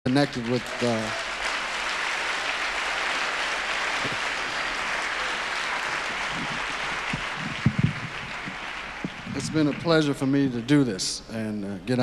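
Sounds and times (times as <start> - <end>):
audience applauding: 0.1 - 11.0.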